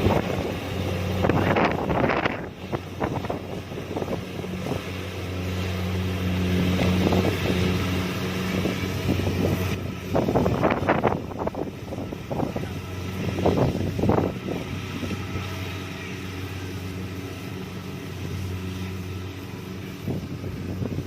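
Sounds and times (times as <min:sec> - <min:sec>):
diesel engine humming: 0:00.0 - 0:21.0
rushing noise of threshing: 0:00.0 - 0:21.0.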